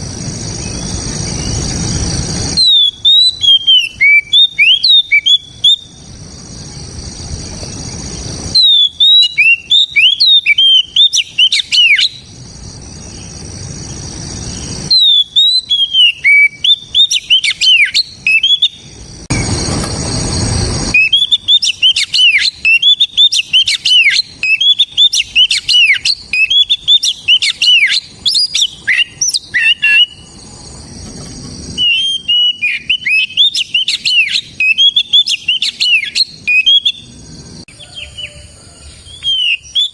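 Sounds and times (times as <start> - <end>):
bird singing whistled notes: 0.1 - 30.7, 31.7 - 39.9.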